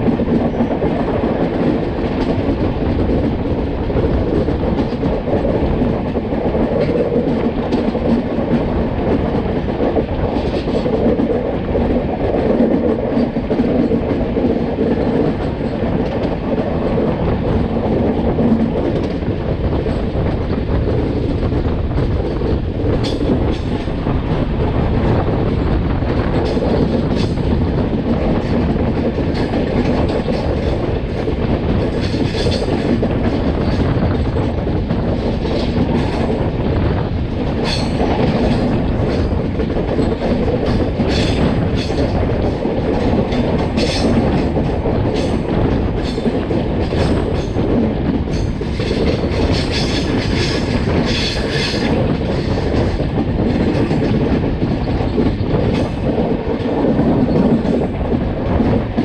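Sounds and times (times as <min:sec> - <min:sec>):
train wheels rumbling on rails: 0:00.0 - 0:59.0
wheels clicking over rail joints: 0:00.0 - 0:59.0.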